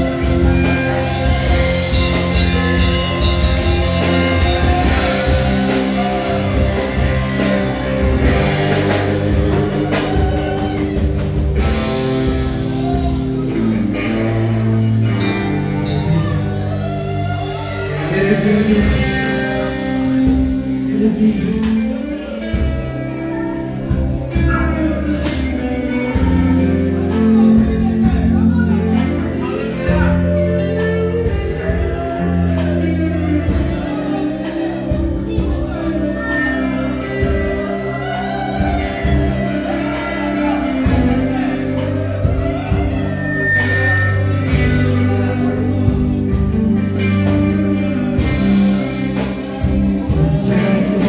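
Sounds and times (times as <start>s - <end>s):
guitar: 0.0s - 51.0s
person singing: 0.0s - 51.0s
worship band music: 0.0s - 51.0s.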